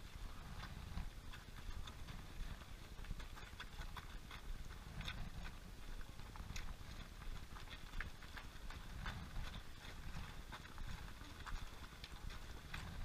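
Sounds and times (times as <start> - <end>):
running footsteps on asphalt: 0.0 - 13.0.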